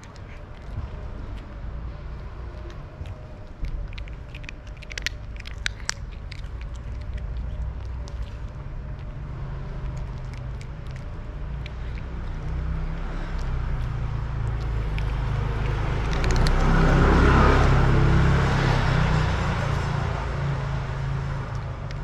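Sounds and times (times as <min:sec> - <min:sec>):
cat crunching dry kibble: 0:00.0 - 0:18.8, 0:21.4 - 0:22.0
vehicle passing: 0:00.0 - 0:22.0.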